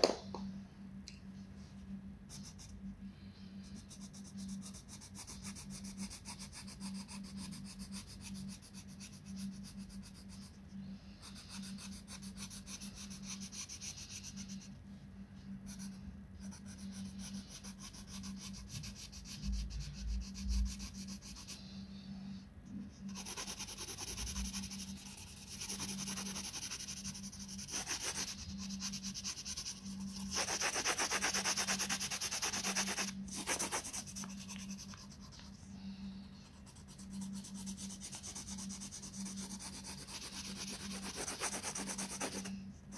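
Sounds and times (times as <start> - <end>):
coloured pencil scratching paper: 2.3 - 2.8, 3.7 - 14.8, 15.6 - 21.7, 23.0 - 35.6, 36.4 - 42.6.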